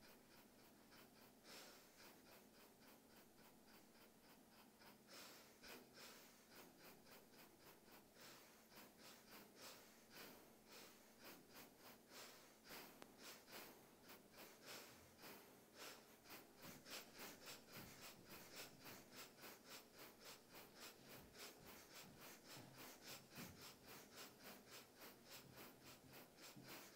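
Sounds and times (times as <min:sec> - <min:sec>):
quick breathy air pulses: 0:00.0 - 0:26.9.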